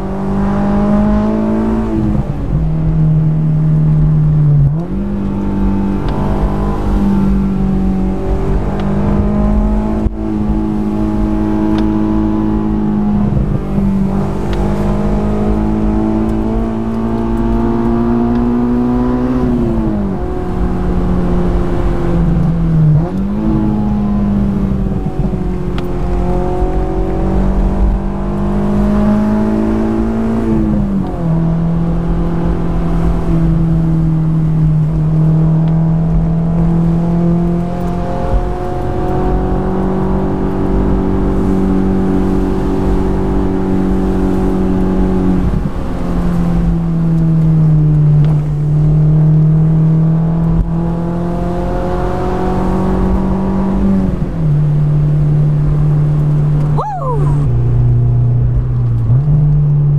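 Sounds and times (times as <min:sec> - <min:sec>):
car engine revving: 0:00.0 - 0:59.9
wind and road rush: 0:00.0 - 0:59.9.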